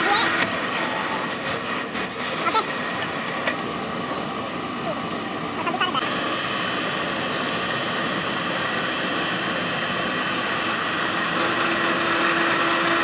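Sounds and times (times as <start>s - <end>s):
workshop machine humming and hissing: 0.0s - 13.0s.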